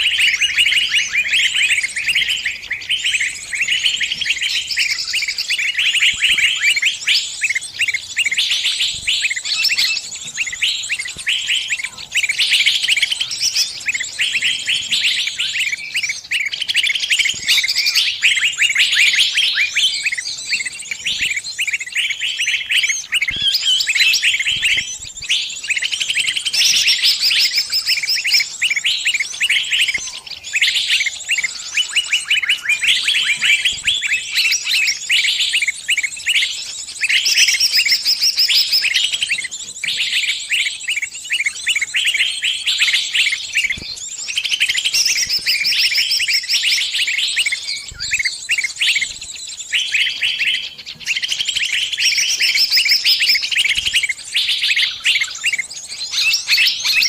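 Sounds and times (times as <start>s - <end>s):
small bird distress chirps: 0.0s - 57.0s.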